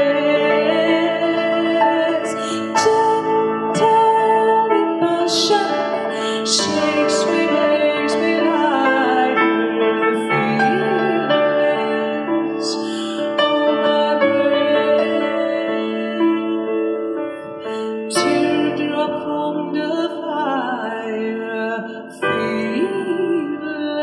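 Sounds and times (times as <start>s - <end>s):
held keyboard chords: 0.0s - 20.3s
woman singing: 0.0s - 24.0s.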